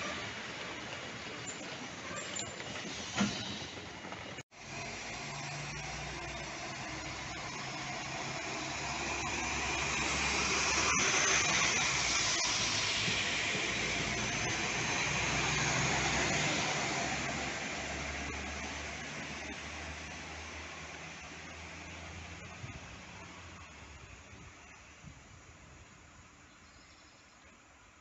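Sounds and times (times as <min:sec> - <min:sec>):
air hiss and train wheels: 0:00.0 - 0:26.3
passing train: 0:00.0 - 0:28.0
train engine hum: 0:00.0 - 0:28.0.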